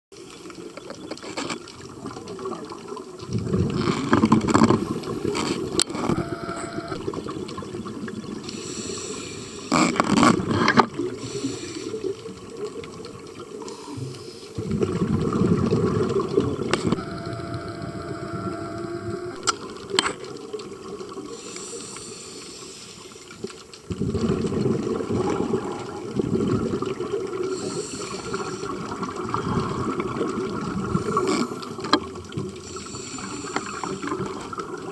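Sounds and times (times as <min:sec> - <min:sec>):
exhaled bubbles rushing underwater: 0:00.6 - 0:09.7, 0:10.4 - 0:22.0, 0:23.8 - 0:34.9.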